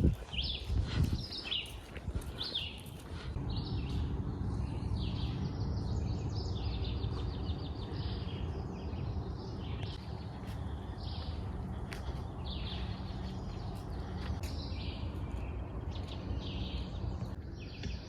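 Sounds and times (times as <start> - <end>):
low background rumble: 0.0 - 18.0
songbirds chirping: 0.0 - 18.0.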